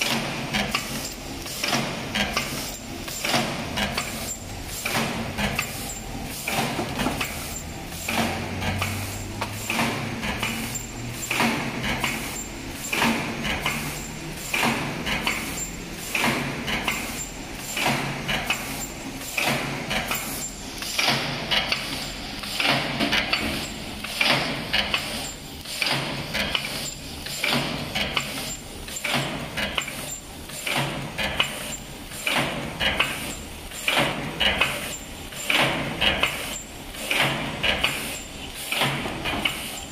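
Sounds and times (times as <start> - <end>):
machine clacking rhythmically: 0.0 - 39.9.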